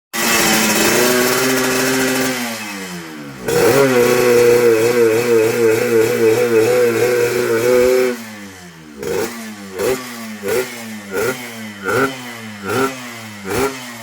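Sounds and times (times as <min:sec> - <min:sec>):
two-stroke motorcycle engine revving: 0:00.1 - 0:14.0.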